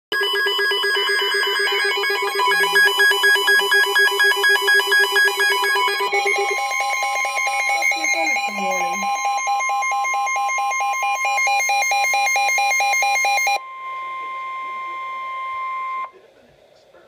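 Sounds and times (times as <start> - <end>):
rapid alarm beeping: 0.1 - 16.1
steady high alert tone: 0.1 - 16.1.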